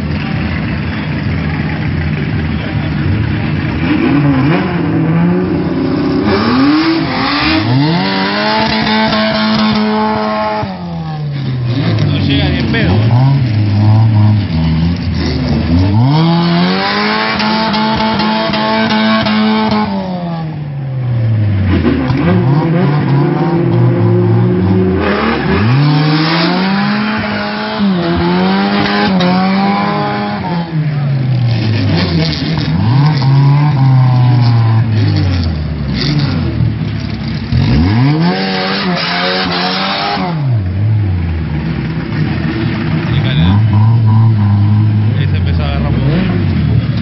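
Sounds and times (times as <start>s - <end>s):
car engine revving hard: 0.2s - 47.0s.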